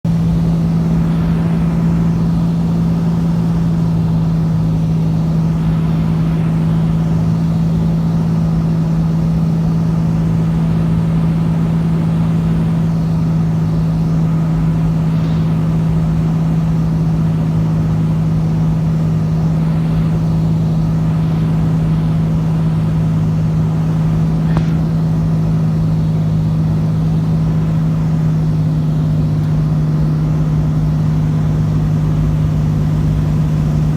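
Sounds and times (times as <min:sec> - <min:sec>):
propeller plane engine droning: 0:00.0 - 0:33.9.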